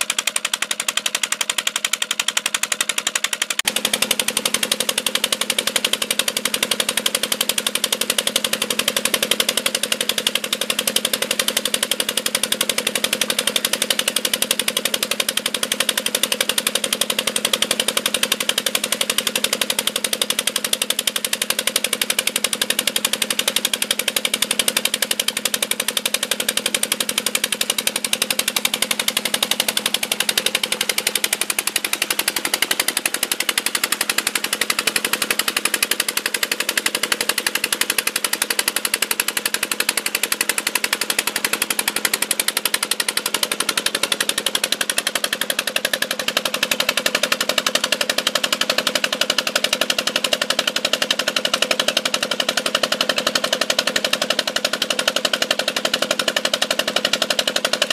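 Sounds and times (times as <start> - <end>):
single-cylinder diesel engine running: 0.0 - 57.9.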